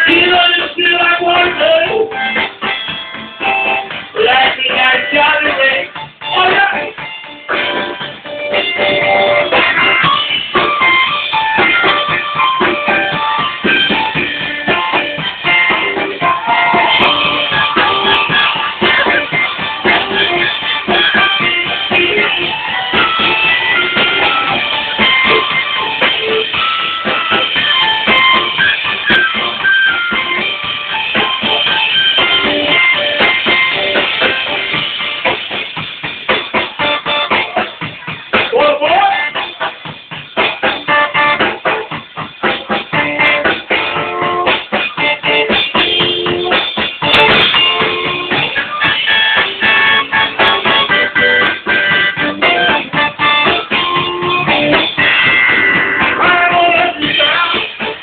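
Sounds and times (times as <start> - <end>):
drum kit beat: 0.0 - 58.0
electric guitar: 0.0 - 58.0
organ: 0.0 - 58.0.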